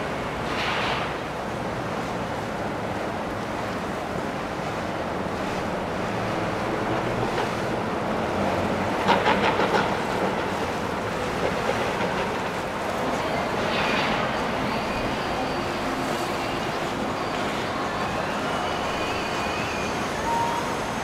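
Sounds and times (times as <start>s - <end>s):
boat engine hum: 0.0s - 21.0s
water washing and churning: 0.0s - 21.0s.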